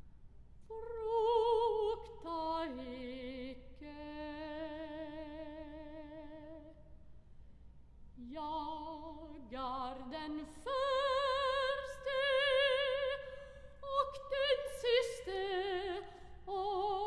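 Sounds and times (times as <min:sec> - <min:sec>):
soprano voice singing with vibrato: 0:00.7 - 0:06.8, 0:08.2 - 0:17.0.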